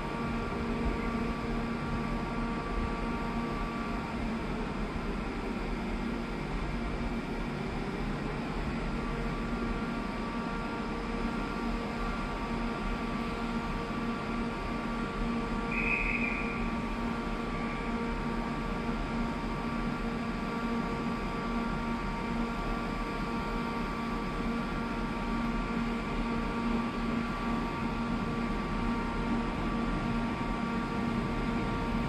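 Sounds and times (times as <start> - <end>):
stationary train humming: 0.0 - 32.0.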